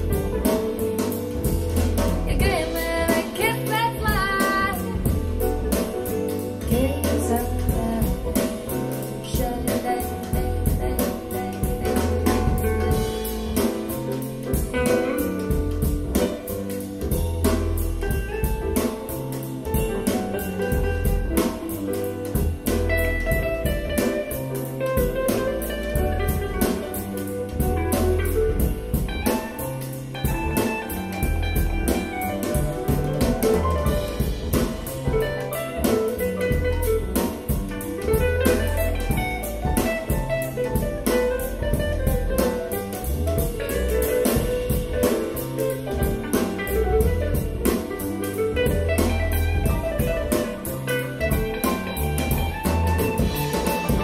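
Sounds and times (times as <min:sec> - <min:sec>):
jazzy band music over speakers: 0:00.0 - 0:54.0.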